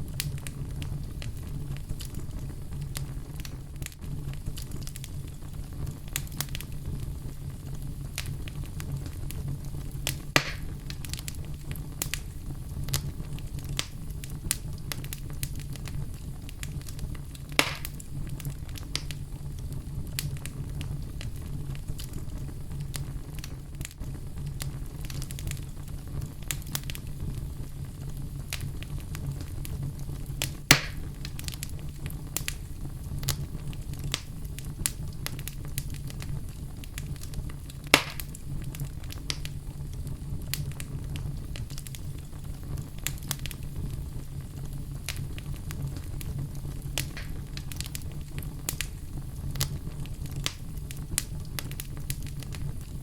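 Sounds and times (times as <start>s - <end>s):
low rumble of flames: 0.0s - 53.0s
wood fire crackling: 0.0s - 53.0s
loud sharp fire pops: 0.1s - 7.1s, 8.2s - 19.2s, 28.4s - 53.0s.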